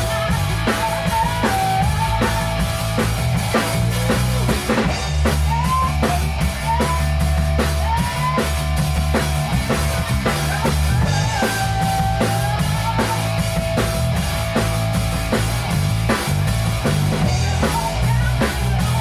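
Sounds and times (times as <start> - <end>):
drum kit beat: 0.0 - 19.0
rock band playing: 0.0 - 19.0.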